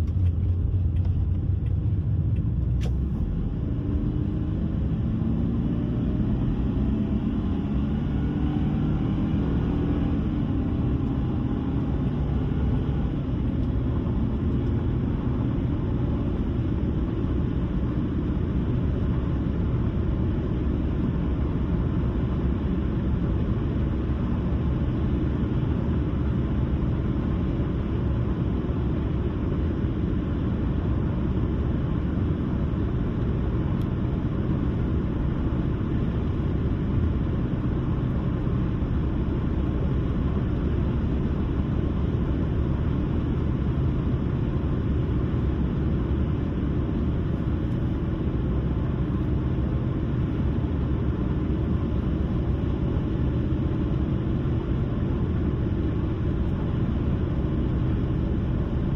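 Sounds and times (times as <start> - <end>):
car driving: 0.0 - 58.9.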